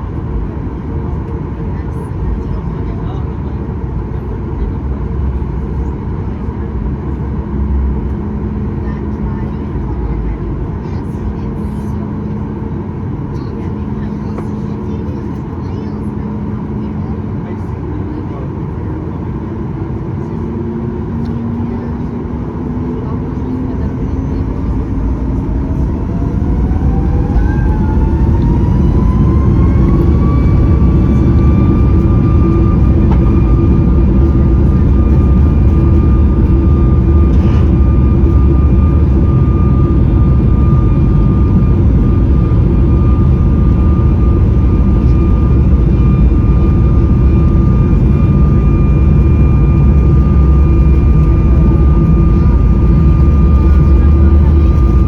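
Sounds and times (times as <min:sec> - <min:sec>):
jet engine roar and rumble: 0:00.0 - 0:55.0
jet engine whine: 0:00.0 - 0:55.0.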